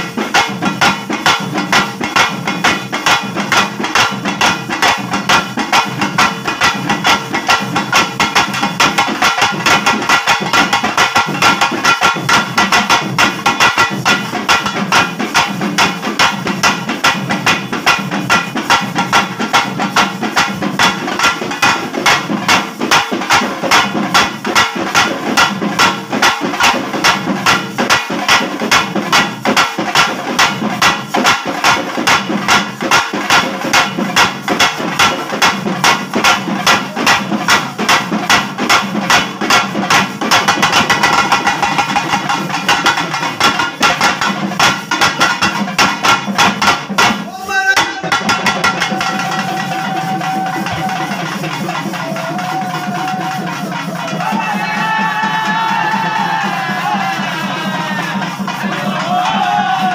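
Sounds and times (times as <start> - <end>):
cylindrical drums beaten with sticks: 0.0 - 59.9
metal-faced drum struck: 0.0 - 59.9.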